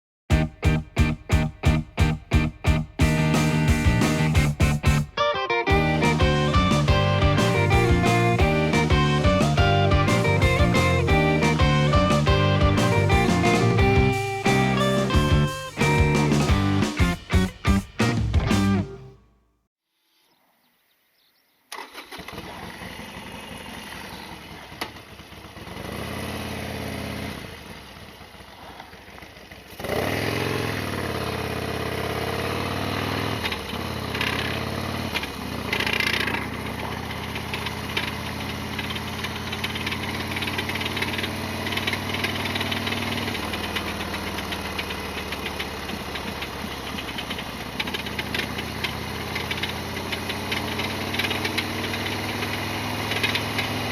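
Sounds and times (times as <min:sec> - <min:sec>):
motorcycle engine running: 0:00.3 - 0:19.1, 0:22.4 - 0:53.9.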